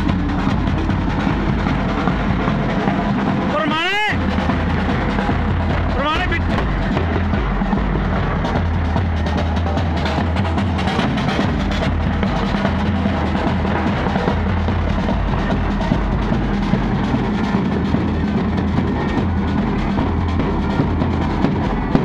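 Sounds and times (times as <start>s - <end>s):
marching bass and snare drums: 0.0s - 22.0s
music playing: 0.0s - 22.0s.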